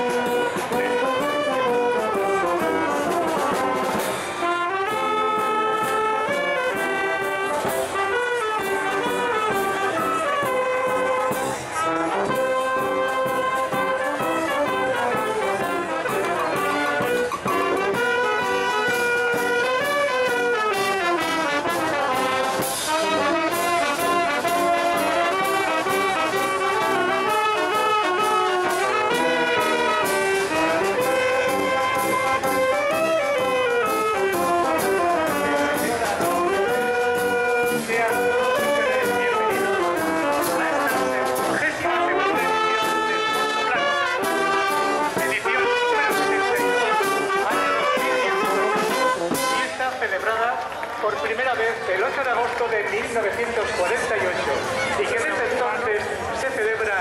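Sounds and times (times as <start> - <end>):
brass band playing a melody: 0.0 - 57.0.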